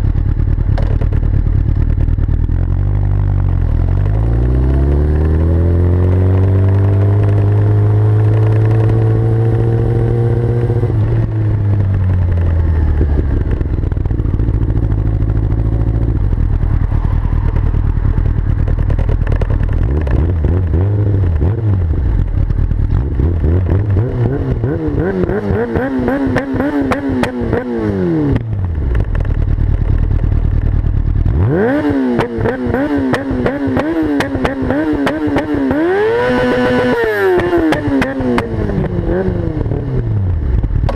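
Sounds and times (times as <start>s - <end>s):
exhaust backfires popping: 0.0s - 40.9s
motorcycle engine revving: 0.0s - 40.9s.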